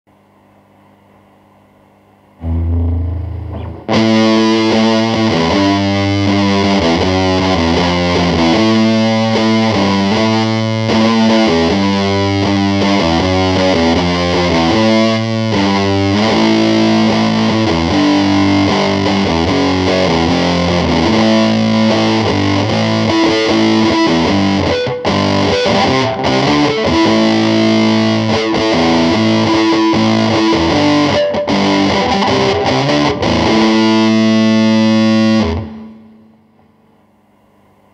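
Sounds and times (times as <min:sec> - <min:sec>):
fuzzed electric guitar riff: 0:02.4 - 0:36.4.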